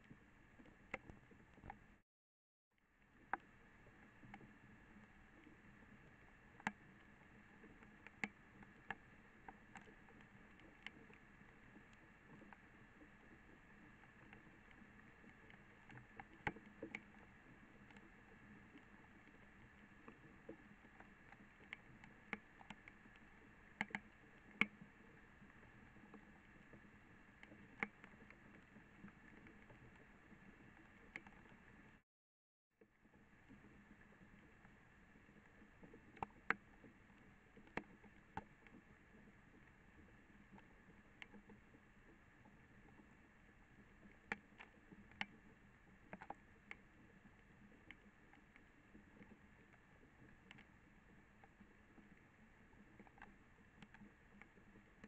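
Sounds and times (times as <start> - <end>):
soft ticks and clicks: 0.0 - 2.0, 3.0 - 32.0, 32.8 - 55.0
faint steady hiss: 2.8 - 32.0, 32.8 - 55.0.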